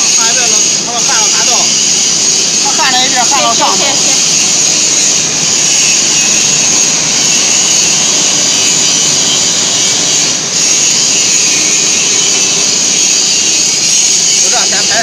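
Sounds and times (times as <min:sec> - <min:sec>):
industrial machinery hiss: 0:00.0 - 0:15.0.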